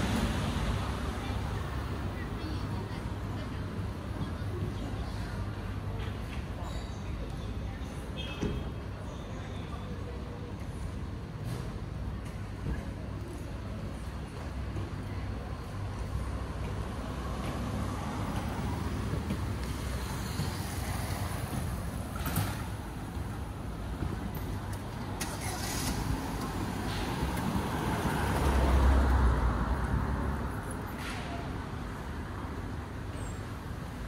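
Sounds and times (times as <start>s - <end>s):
rumble of car traffic: 0.0s - 34.0s.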